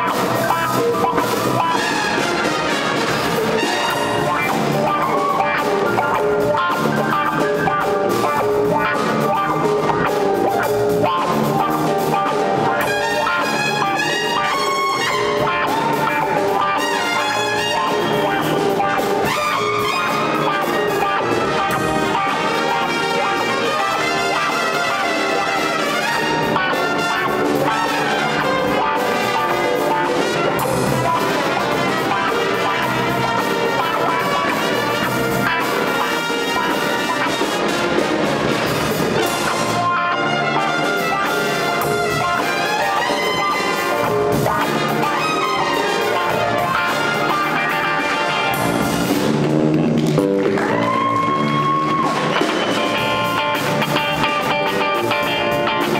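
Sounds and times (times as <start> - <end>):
trumpet solo: 0.0 - 10.0, 11.1 - 49.5
funk jazz band playing: 0.0 - 55.9.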